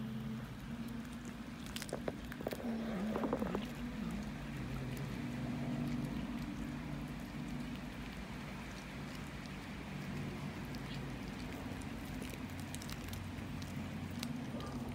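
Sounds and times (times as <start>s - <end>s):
cats chewing: 0.0s - 14.9s
steady low hum: 0.0s - 14.9s.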